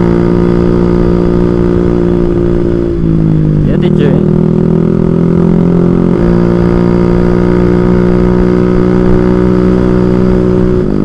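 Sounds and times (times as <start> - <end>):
scooter engine cruising: 0.0 - 11.0.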